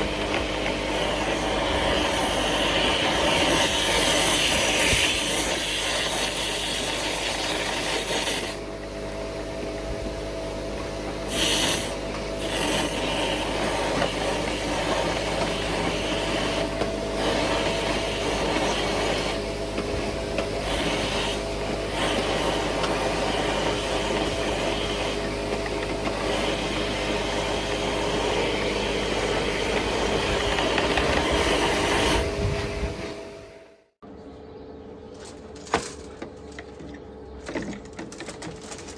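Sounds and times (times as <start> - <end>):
steady motor: 0.0 - 34.0.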